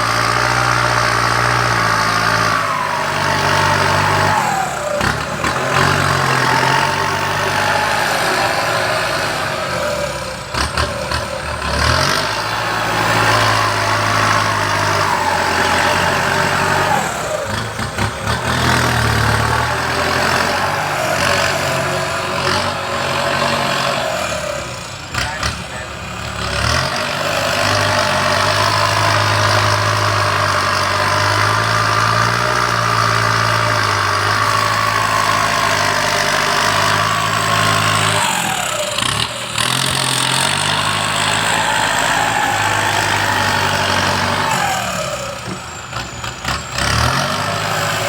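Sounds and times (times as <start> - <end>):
heavy machinery engines running: 0.0 - 48.0.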